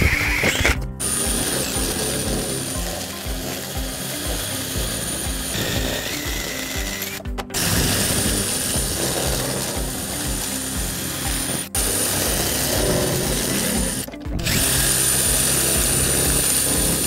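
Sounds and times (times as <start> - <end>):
drill shear cutting board: 0.0 - 17.0.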